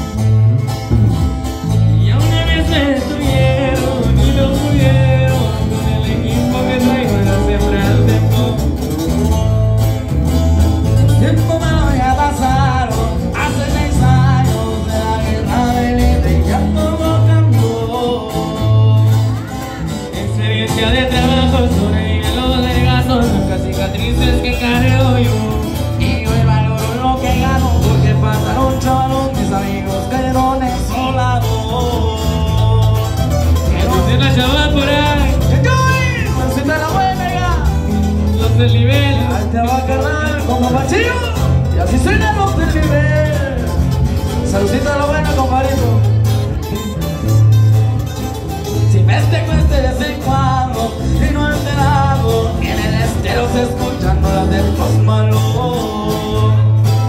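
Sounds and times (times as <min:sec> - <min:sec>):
man singing into a microphone: 0:00.0 - 0:09.7, 0:10.8 - 0:46.7, 0:48.6 - 0:57.0
acoustic guitar picking: 0:00.0 - 0:57.0
electric bass: 0:00.0 - 0:57.0.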